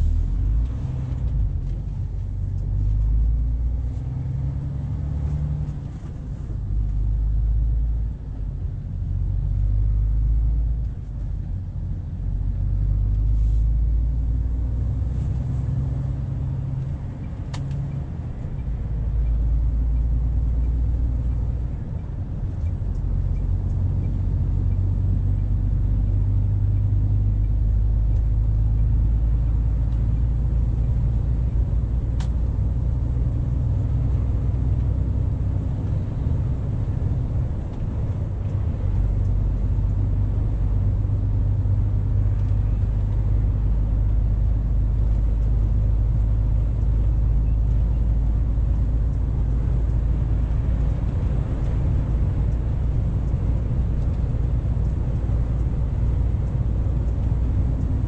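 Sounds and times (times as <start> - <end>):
diesel truck engine accelerating: 0.0 - 58.0.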